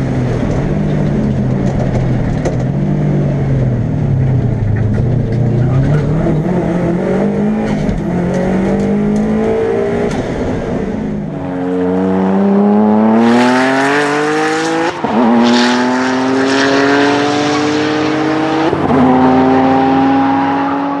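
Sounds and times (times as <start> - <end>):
turbocharged engine accelerating: 0.0 - 21.0.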